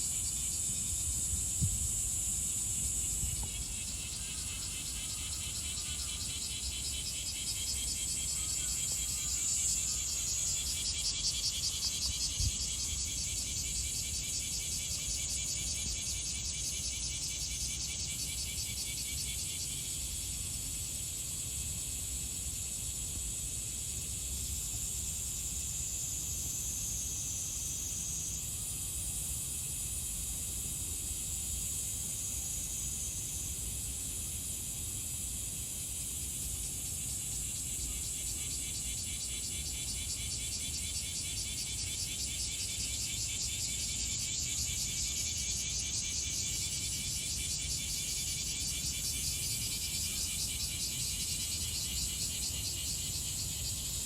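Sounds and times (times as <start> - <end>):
insects chirring: 0.0 - 24.2, 24.9 - 54.0.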